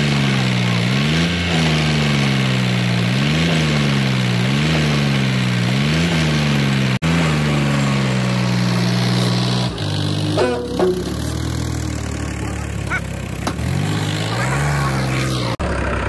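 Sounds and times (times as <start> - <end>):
diesel tractor engine running hard: 0.0 - 16.0.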